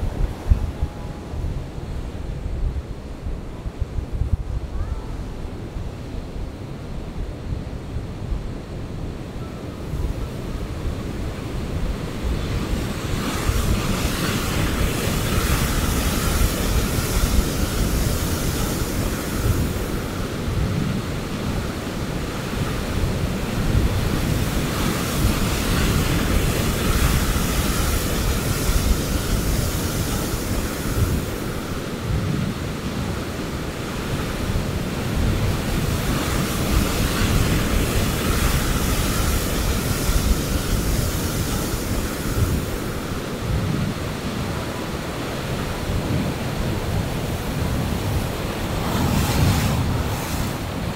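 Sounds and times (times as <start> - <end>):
wind rumble on microphone: 0.0 - 50.9
ocean surf breaking: 9.8 - 50.9.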